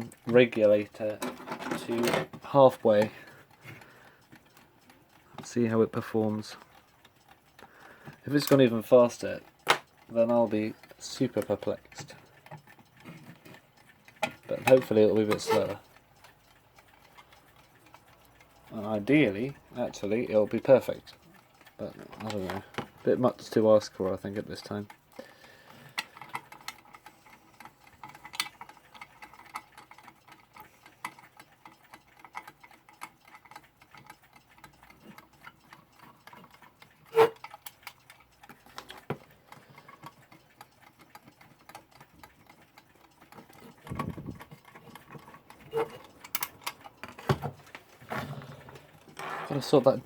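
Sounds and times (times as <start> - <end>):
alarm clock ticking: 0.0 - 50.0.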